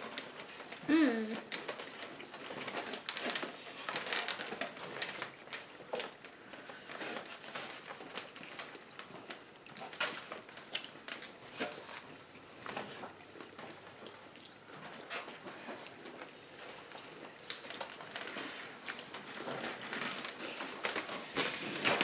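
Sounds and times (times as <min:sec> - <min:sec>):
paper packaging rustling: 0:00.0 - 0:13.9, 0:14.8 - 0:22.0
chewing crackles: 0:00.0 - 0:22.0.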